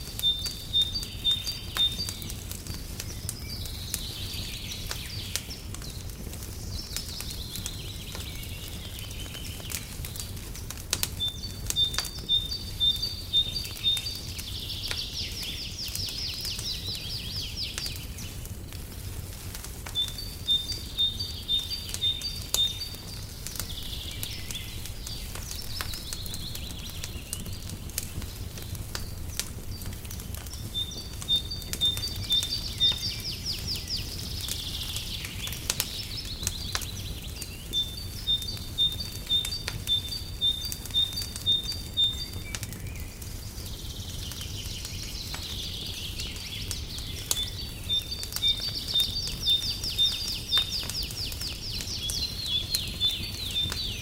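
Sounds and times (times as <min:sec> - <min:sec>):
bird singing: 0:00.0 - 0:10.4, 0:11.1 - 0:18.4, 0:19.9 - 0:54.0
fire crackling: 0:00.0 - 0:54.0.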